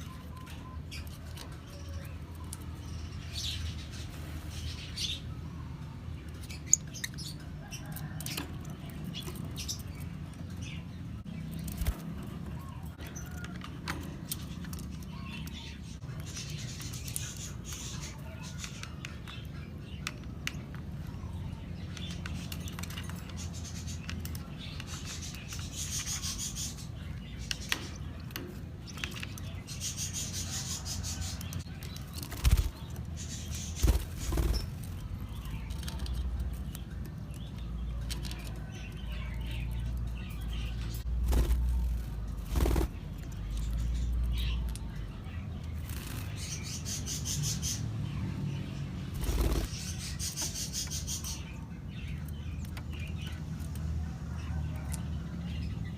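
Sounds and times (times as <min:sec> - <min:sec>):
lovebirds chattering: 0:00.0 - 0:55.9.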